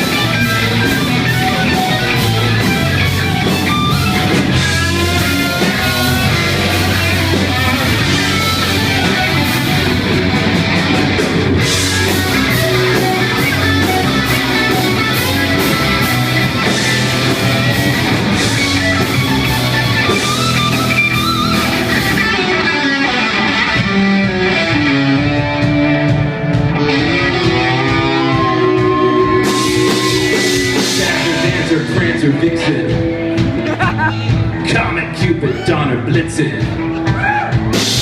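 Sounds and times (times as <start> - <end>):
lead guitar bending notes: 0.0 - 36.1
heavy metal band playing: 0.0 - 38.0.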